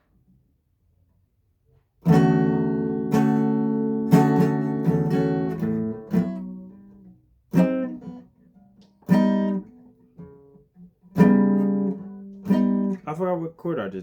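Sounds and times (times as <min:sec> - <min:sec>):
guitar chords strummed: 0:02.0 - 0:14.0.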